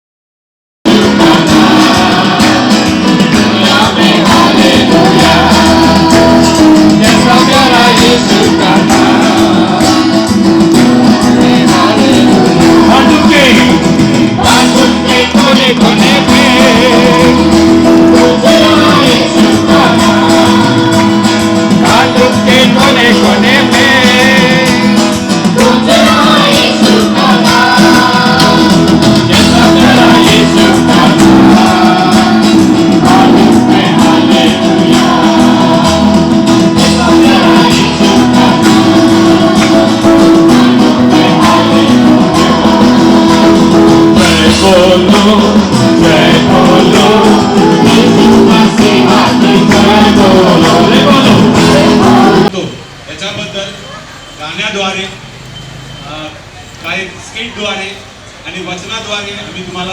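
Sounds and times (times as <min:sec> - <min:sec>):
instrumental accompaniment: 0:00.9 - 0:52.5
person singing: 0:00.9 - 0:52.5.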